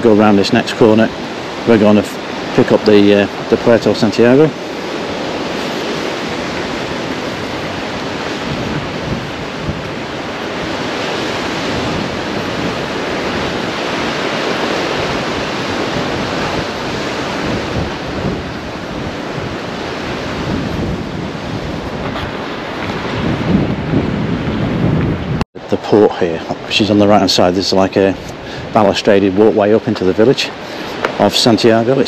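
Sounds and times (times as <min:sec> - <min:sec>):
sea surf on rocky shore: 0:00.0 - 0:32.0
wind on microphone: 0:00.0 - 0:32.0.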